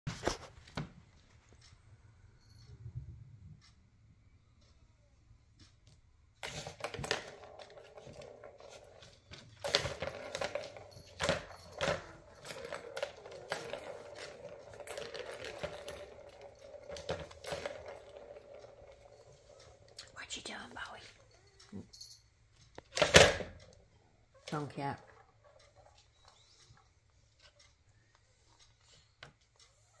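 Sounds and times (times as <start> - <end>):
plastic balls rolling and rattling: 5.9 - 30.0.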